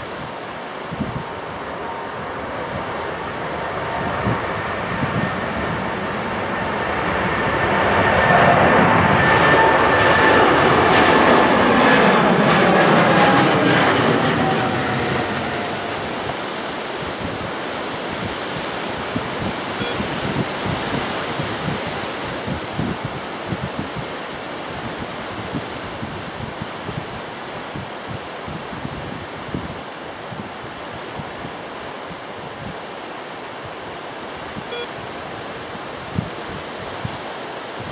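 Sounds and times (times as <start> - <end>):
jet airliner passing: 0.0 - 31.4, 34.4 - 37.9
wind buffeting microphone: 0.0 - 37.9.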